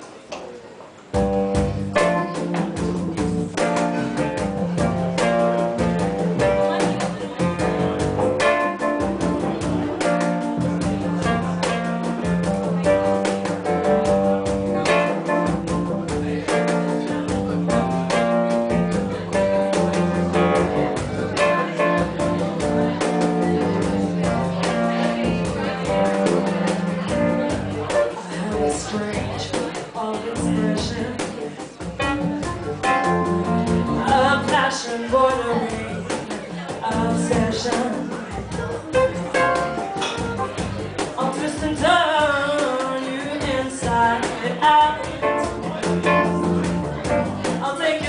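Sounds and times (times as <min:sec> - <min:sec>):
electric bass: 0:01.2 - 0:29.6, 0:30.3 - 0:36.2, 0:36.9 - 0:42.6, 0:45.0 - 0:47.7
cajon beat: 0:01.2 - 0:48.0
piano: 0:01.2 - 0:48.0.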